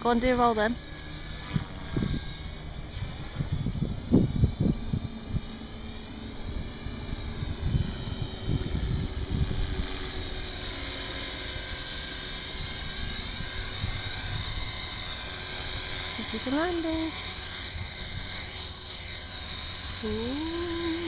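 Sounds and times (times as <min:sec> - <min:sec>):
rc helicopter rotor whine: 0:00.0 - 0:21.0.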